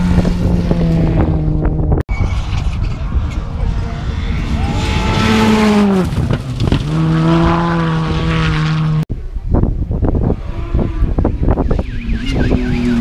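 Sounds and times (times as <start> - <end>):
rally car engine revving: 0.0 - 9.0, 10.2 - 13.0.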